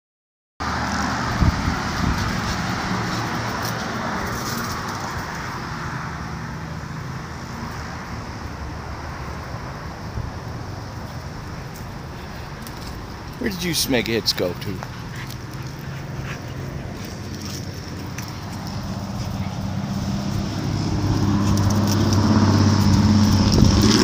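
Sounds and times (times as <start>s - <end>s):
road traffic passing: 0.6s - 24.0s.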